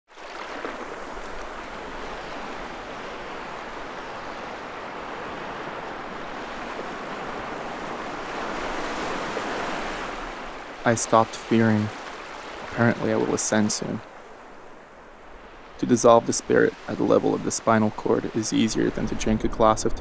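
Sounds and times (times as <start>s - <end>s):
ocean waves breaking: 0.1s - 20.0s.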